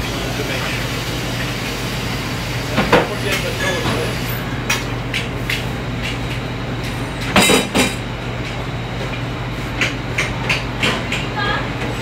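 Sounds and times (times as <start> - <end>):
ventilation hood hum: 0.0 - 12.0.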